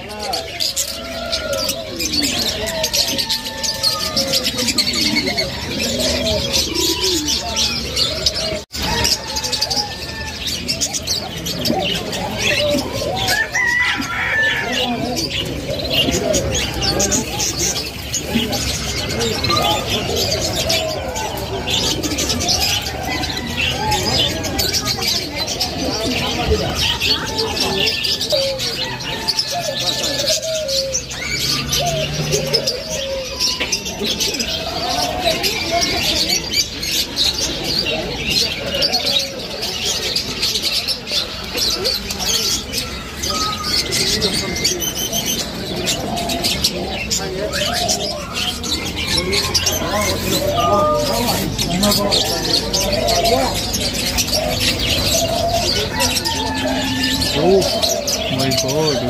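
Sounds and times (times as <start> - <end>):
birds cooing: 0.0 - 59.0
caged birds twittering: 0.0 - 59.0.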